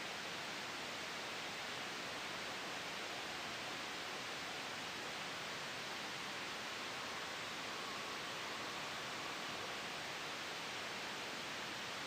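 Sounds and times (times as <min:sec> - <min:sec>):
white noise hiss: 0:00.0 - 0:12.0.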